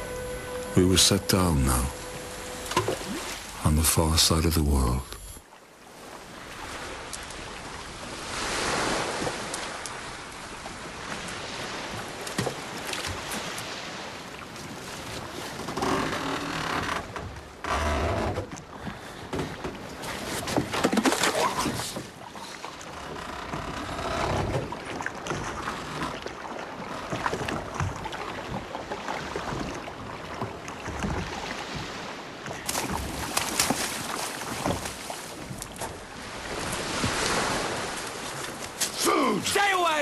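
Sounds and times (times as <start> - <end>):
sea: 0.0 - 40.0
wind: 0.0 - 40.0.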